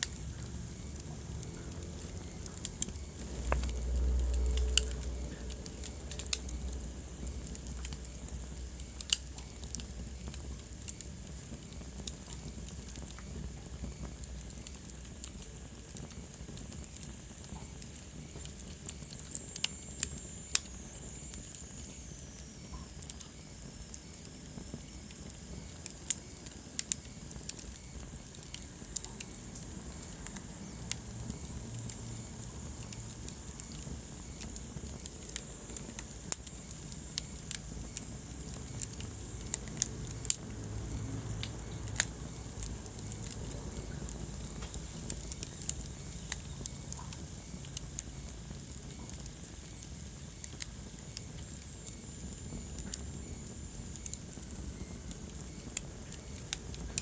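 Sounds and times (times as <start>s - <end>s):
low hiss: 0.0s - 57.0s
wood fire crackling: 0.0s - 57.0s.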